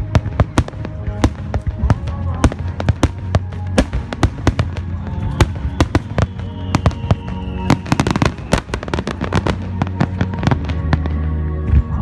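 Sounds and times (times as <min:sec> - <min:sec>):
firework shells bursting: 0:00.0 - 0:11.3
music: 0:00.0 - 0:12.0.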